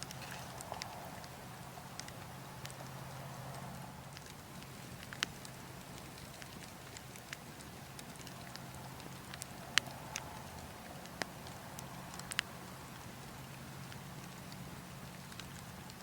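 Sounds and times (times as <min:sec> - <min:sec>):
burning logs crackling and popping: 0:00.0 - 0:16.0.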